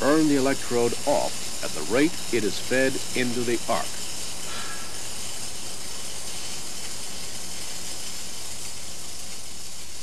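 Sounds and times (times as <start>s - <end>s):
low steady hum: 0.0s - 10.0s
welding arc hissing: 0.0s - 10.0s.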